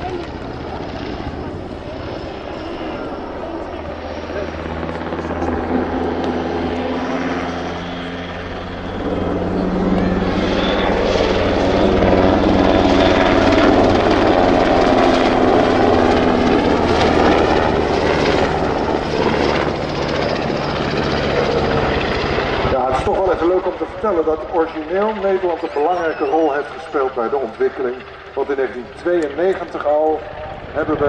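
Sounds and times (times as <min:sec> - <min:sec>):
helicopter flying overhead: 0:00.0 - 0:31.0.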